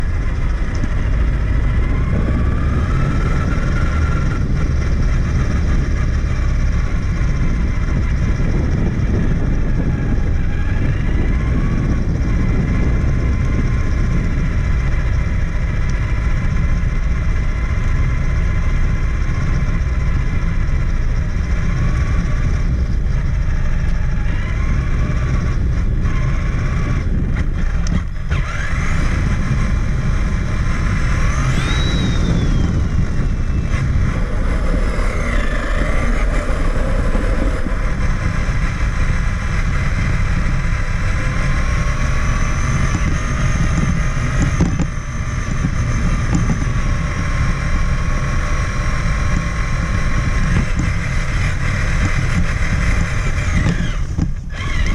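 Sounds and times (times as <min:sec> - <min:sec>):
electric motor and gear whine: 0:00.0 - 0:54.9
steady low rumble: 0:00.0 - 0:54.9.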